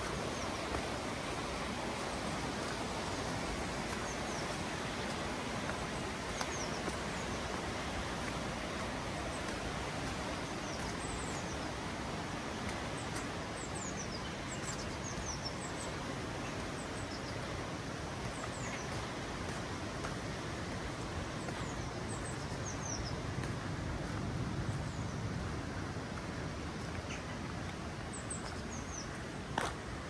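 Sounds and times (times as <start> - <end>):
small birds chirping: 0.0 - 25.4, 26.0 - 30.0
steady rushing outdoor noise: 0.0 - 30.0.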